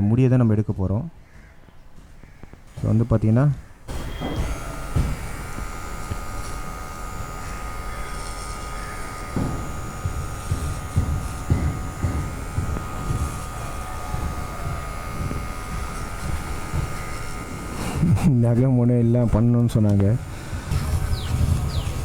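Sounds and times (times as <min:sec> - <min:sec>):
small electric motor whine: 0:03.8 - 0:22.0.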